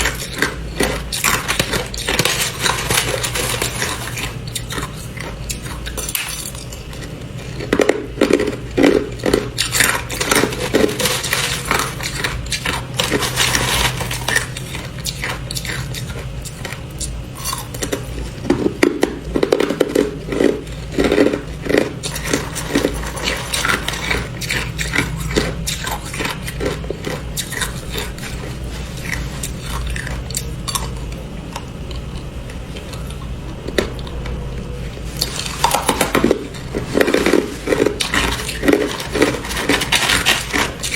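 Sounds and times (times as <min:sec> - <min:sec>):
ice being crunched: 0:00.0 - 0:16.0, 0:19.6 - 0:30.9, 0:35.2 - 0:40.9
low steady hum: 0:00.0 - 0:40.9.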